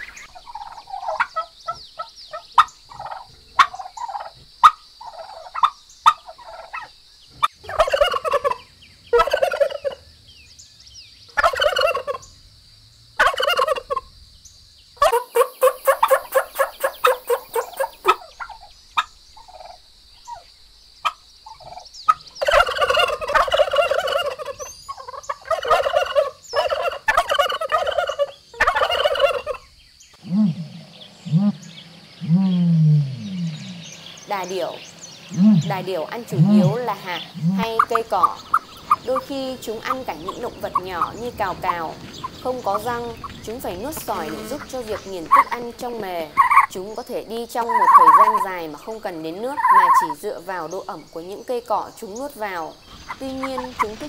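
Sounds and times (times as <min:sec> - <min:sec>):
turkey single calls: 0:00.0 - 0:10.0, 0:11.3 - 0:12.3, 0:13.2 - 0:14.1, 0:15.0 - 0:43.4, 0:44.0 - 0:45.7, 0:46.3 - 0:46.8, 0:47.6 - 0:50.2
turkeys gobbling: 0:00.0 - 0:10.0, 0:11.3 - 0:12.3, 0:13.2 - 0:14.1, 0:15.0 - 0:51.0, 0:52.6 - 0:54.0.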